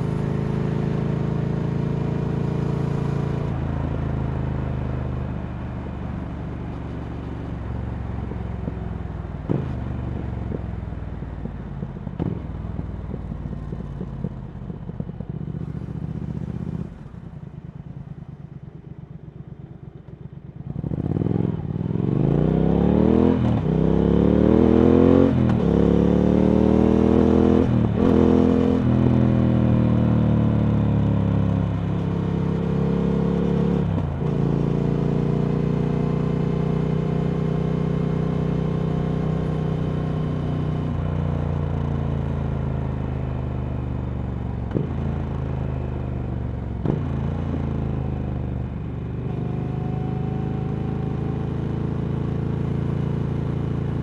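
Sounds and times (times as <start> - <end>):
motorcycle engine: 6.0 - 54.0.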